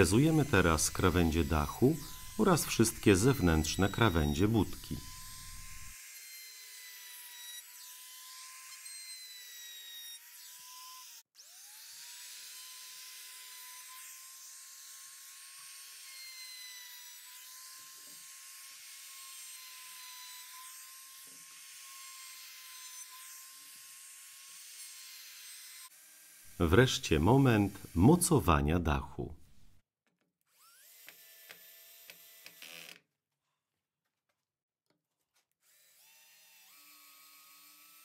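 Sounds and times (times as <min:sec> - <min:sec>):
router whining while cutting wood: 0:00.0 - 0:26.6, 0:30.5 - 0:33.0, 0:35.6 - 0:38.0.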